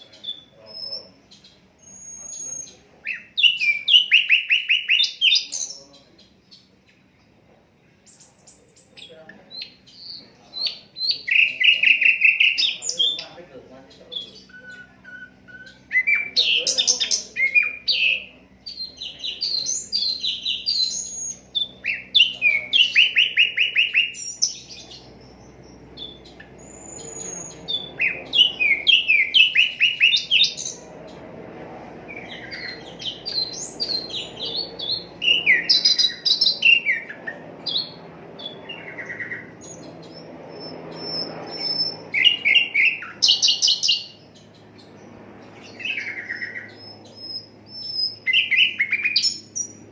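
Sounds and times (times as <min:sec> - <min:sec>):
flycatcher singing: 0:00.0 - 0:49.9.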